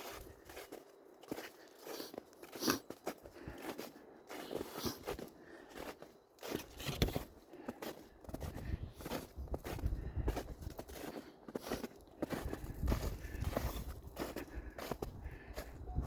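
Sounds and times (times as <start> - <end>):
footsteps crunching in snow: 0.0 - 16.0.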